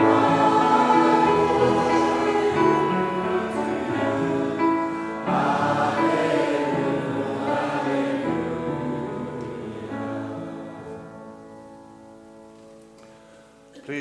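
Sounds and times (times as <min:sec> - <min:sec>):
congregation singing a hymn: 0:00.0 - 0:11.9.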